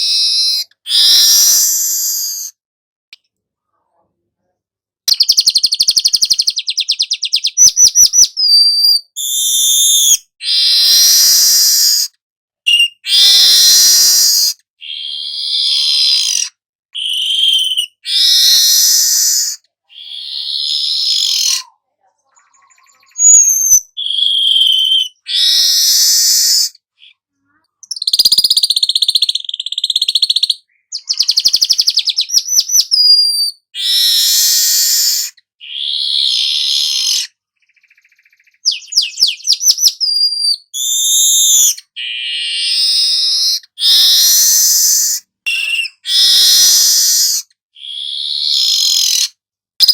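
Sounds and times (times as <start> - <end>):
weaver bird singing: 5.1 - 10.2, 12.7 - 21.6, 22.3 - 27.2, 27.8 - 49.9.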